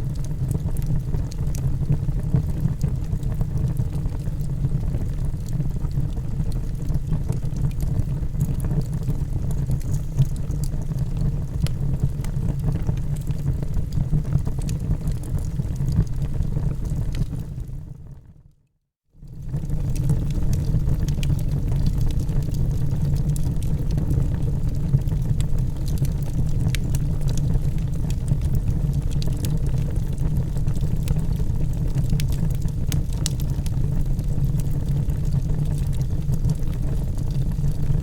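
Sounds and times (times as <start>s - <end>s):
fire crackles and pops: 0.0s - 18.0s, 19.2s - 38.0s
low rumble of flames: 0.0s - 18.4s, 19.2s - 38.0s.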